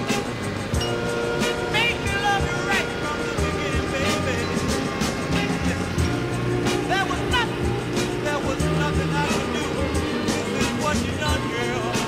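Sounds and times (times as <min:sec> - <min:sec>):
music with melody and drum hits: 0:00.0 - 0:12.0.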